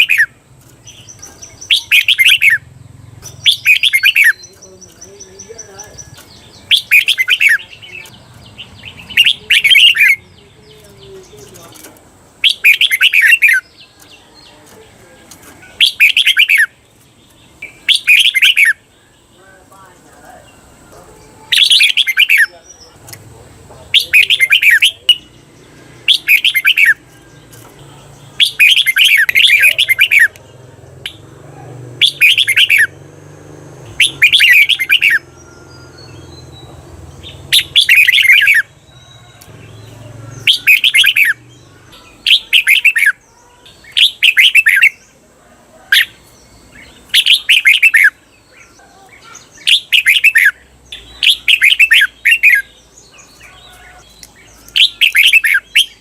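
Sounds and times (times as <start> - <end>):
bulbul warbling song: 0.0 - 45.2, 45.9 - 56.0.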